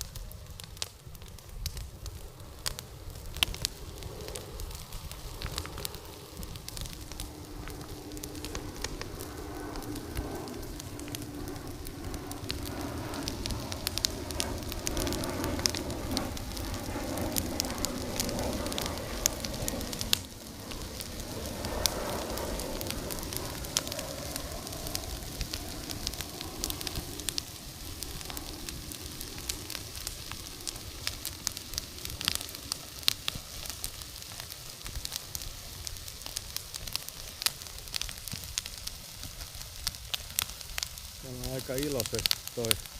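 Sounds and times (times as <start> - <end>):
bonfire crackling and popping: 0.0 - 42.9
low rushing of flame: 0.0 - 42.9.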